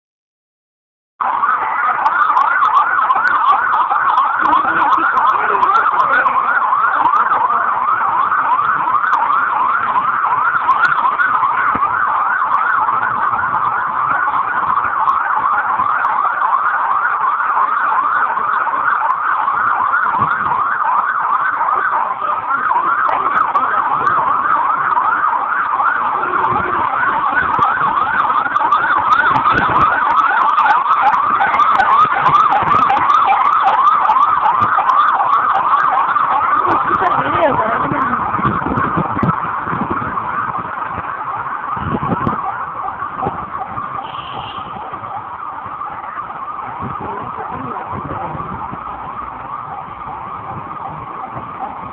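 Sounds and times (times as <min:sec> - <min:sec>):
siren yelping: 0:01.2 - 0:51.9.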